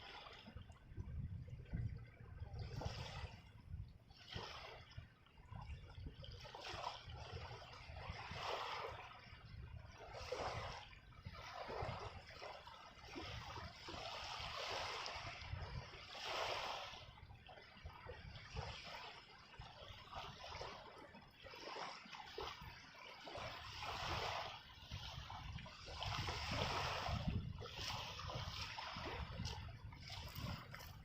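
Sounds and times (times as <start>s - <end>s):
small waves lapping: 0.0s - 31.0s.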